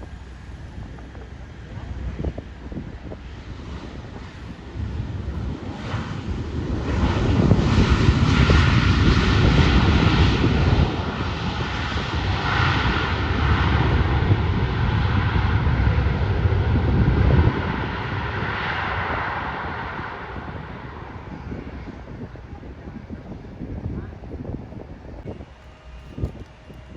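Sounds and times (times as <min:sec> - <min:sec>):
airliner engines rumbling: 0:00.0 - 0:26.9
faint steady engine whine: 0:00.0 - 0:26.9.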